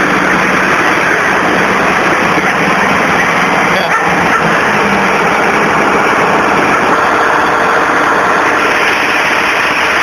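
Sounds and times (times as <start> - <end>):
tractor diesel engines under load: 0.0 - 10.0.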